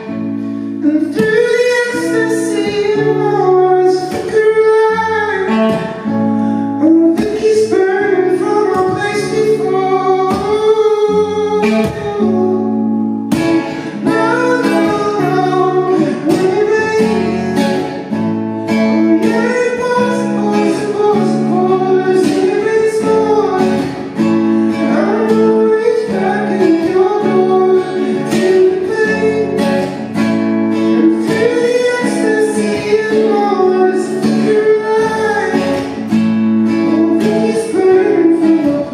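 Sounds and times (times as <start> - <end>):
acoustic guitar strumming: 0.0 - 38.9
person singing: 0.0 - 38.9.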